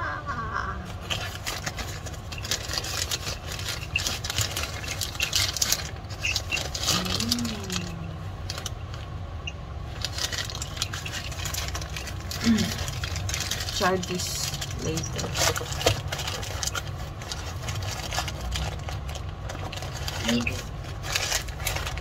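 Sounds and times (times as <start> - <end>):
low background hum: 0.0 - 22.0
plastic wrapping crinkling: 0.9 - 22.0.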